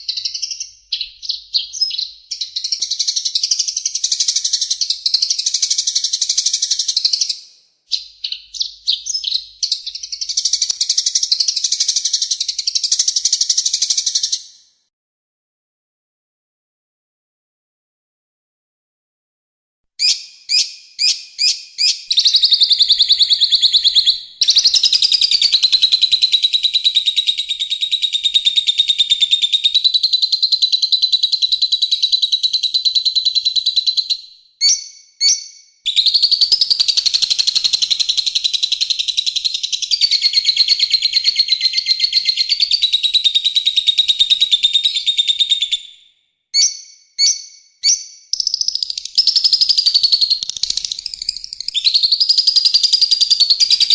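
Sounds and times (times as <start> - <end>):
songbird chattering song: 0.0 - 14.5, 20.0 - 45.9, 46.6 - 53.9.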